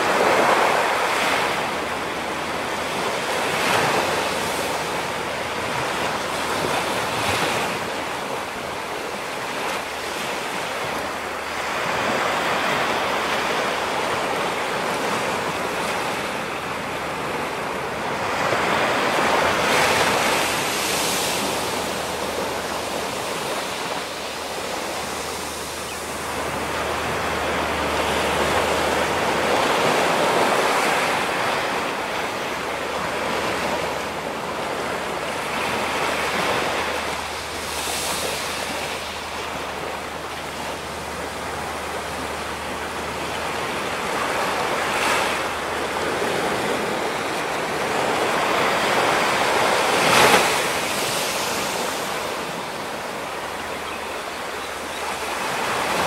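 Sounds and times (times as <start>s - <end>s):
ocean surf on rocky shore: 0.0s - 56.0s.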